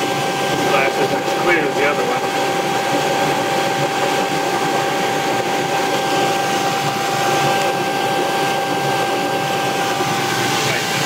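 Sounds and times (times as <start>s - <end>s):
constant whine: 0.0s - 11.0s
gas boiler burner rushing: 0.0s - 11.0s.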